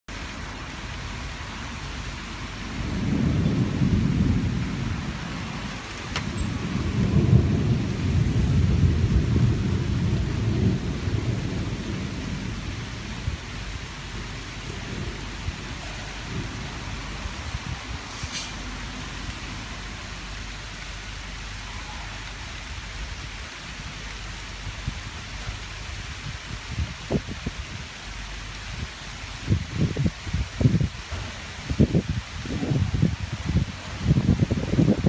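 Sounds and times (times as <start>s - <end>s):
rain falling: 0.1s - 35.0s
low thunder rumbles: 1.8s - 35.0s.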